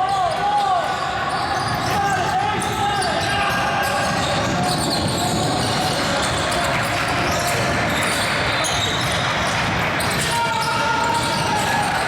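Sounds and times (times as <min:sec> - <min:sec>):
indistinct echoing voices: 0:00.0 - 0:12.0.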